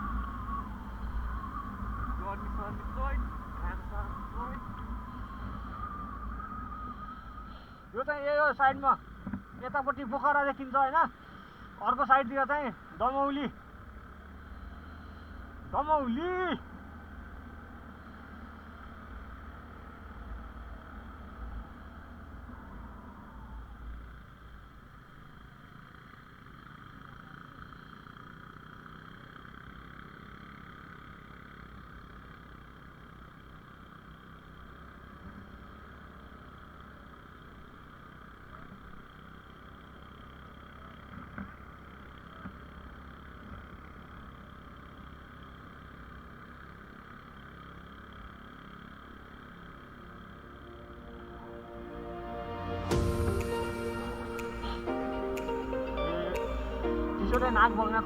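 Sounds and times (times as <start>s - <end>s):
vehicle running on rough road: 0.0s - 52.1s.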